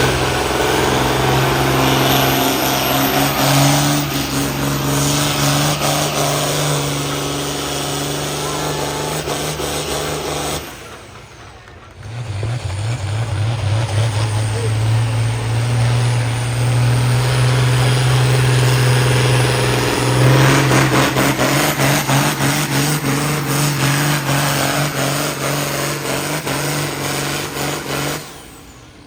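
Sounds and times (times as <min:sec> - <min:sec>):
tractor engine revving hard: 0:00.0 - 0:29.0.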